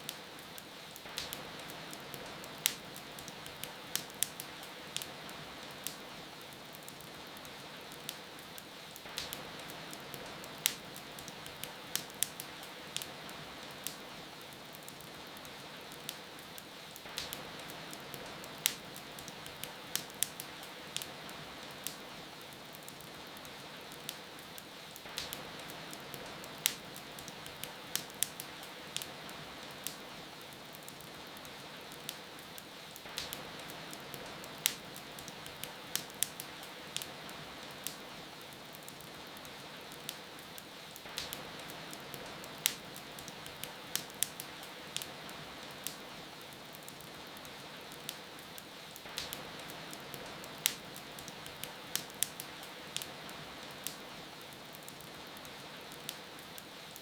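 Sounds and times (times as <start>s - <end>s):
rain hiss: 0.0s - 57.0s
wood fire crackling: 0.0s - 57.0s.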